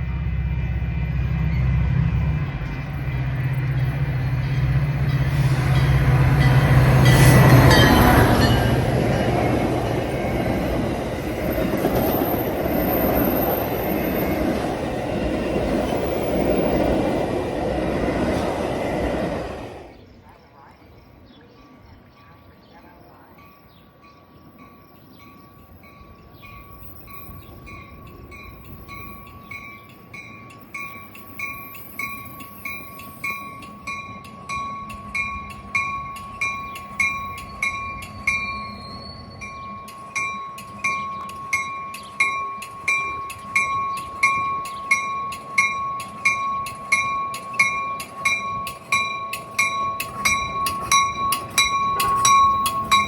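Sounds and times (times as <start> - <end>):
railroad bell ringing: 0.0 - 18.6, 21.6 - 53.0.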